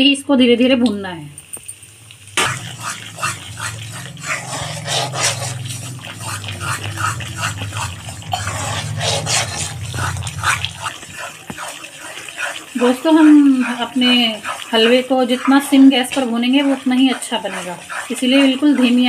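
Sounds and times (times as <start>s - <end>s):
steady low hum: 2.0s - 19.0s
metal spoon scraping flour: 2.4s - 19.0s.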